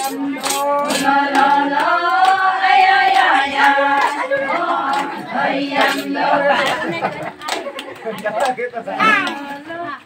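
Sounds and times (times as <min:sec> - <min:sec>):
women singing together: 0:00.0 - 0:08.0, 0:08.8 - 0:10.0
faint rhythmic hand clapping: 0:00.0 - 0:09.9.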